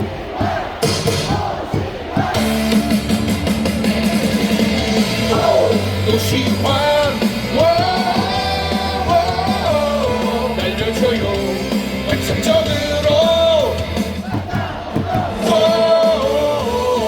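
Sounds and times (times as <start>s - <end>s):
crowd chanting: 0.0s - 3.4s, 5.0s - 17.0s
cheer song over stadium loudspeakers: 0.0s - 17.0s
crowd singing and shouting: 0.0s - 17.0s.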